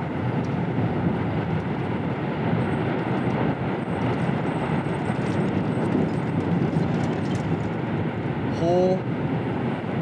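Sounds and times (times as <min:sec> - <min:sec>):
tornado roaring: 0:00.0 - 0:10.0.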